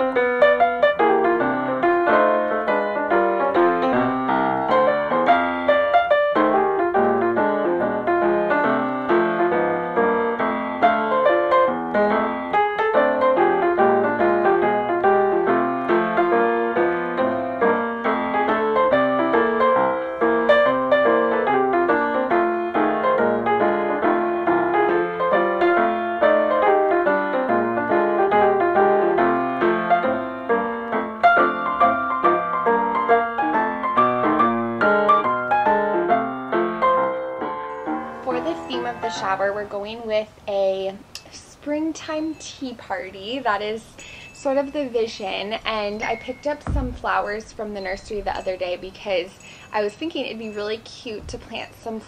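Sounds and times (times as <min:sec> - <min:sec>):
lively piano music: 0:00.0 - 0:40.7, 0:41.6 - 0:52.0.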